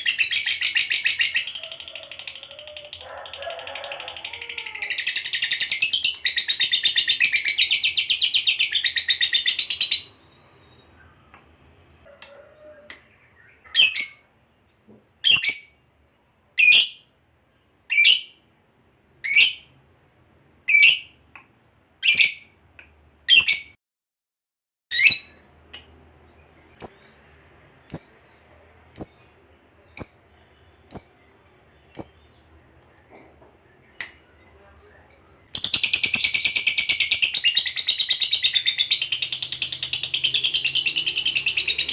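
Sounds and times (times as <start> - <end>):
lovebird chirping: 0.0 - 3.0, 4.6 - 11.6, 12.3 - 14.4, 15.1 - 18.4, 19.1 - 21.3, 24.9 - 32.5, 33.1 - 41.9.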